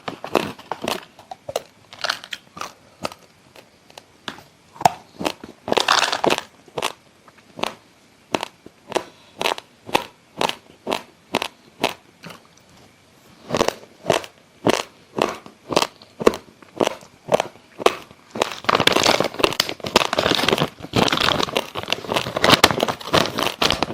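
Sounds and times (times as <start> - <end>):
chewing crunchy rice grains: 0.0 - 23.9.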